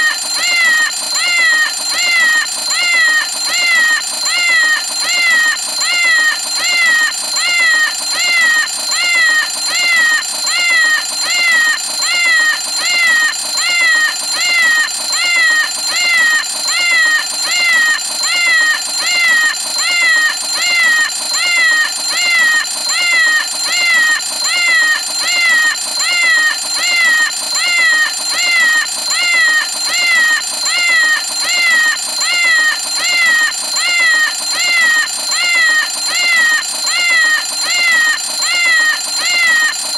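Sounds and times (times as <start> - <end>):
cartoon cat alarm meowing: 0.0 - 39.9.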